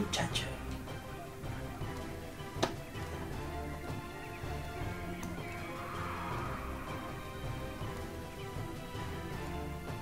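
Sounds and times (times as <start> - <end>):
background music with sustained notes: 0.0 - 10.0.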